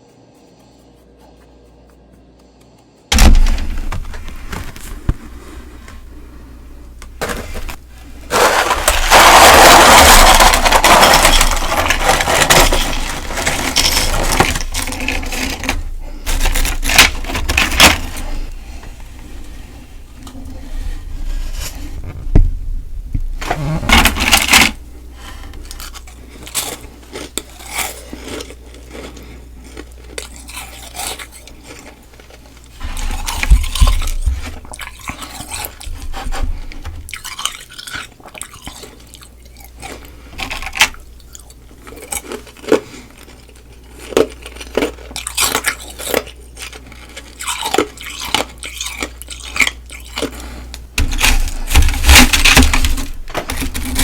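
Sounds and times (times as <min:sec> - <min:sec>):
crunching and chewing ice: 0:03.1 - 0:22.6, 0:23.2 - 0:54.0.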